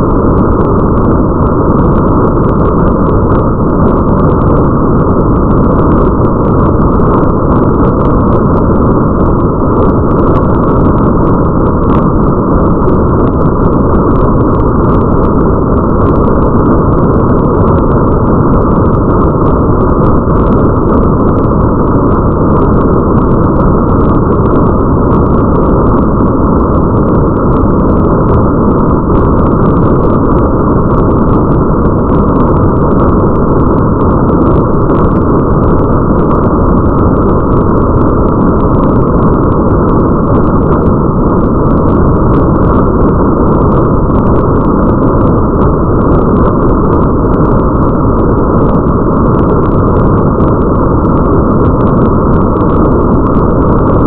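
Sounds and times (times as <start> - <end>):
deep rumble: 0.0 - 54.0
muffled rain: 0.0 - 54.0.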